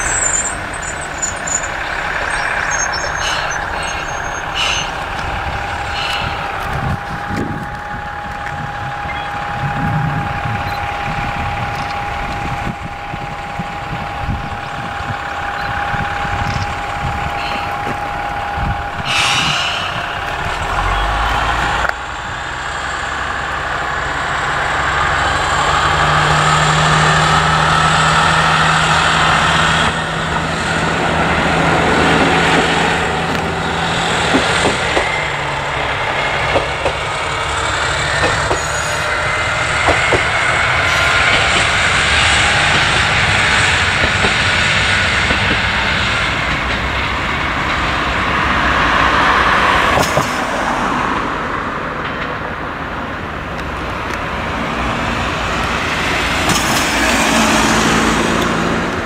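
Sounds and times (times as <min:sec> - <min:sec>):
sharp clicks from train: 0:00.0 - 0:22.3, 0:23.2 - 0:59.0
diesel railcar engine droning: 0:00.0 - 0:59.0.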